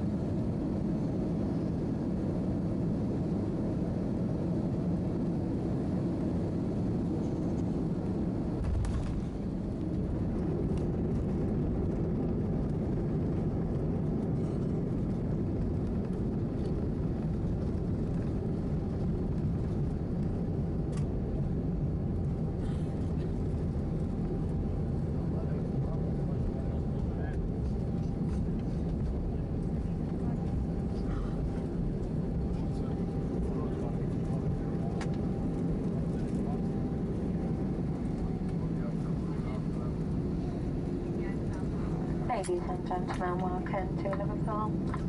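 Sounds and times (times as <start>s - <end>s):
aircraft cabin rumble: 0.0s - 45.0s.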